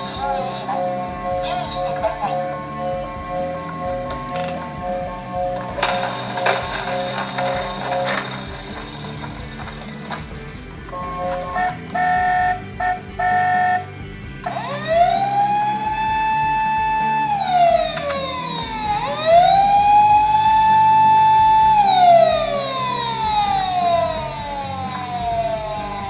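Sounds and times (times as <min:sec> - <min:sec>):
beeping tones: 0:00.0 - 0:26.0
toy electronic siren: 0:00.0 - 0:26.0.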